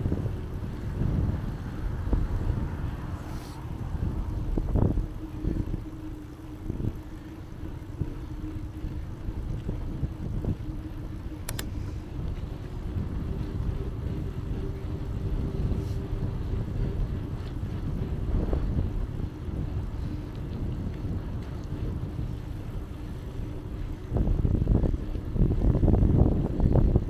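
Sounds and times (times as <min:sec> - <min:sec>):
bicycle tyres rolling: 0:00.0 - 0:27.0
faint steady hum: 0:00.0 - 0:27.0.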